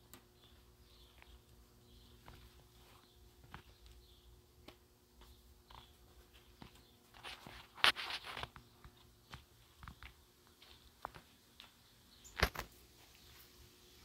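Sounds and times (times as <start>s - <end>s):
faint steady hum: 0.0s - 14.0s
footsteps on a garden path: 0.6s - 13.6s.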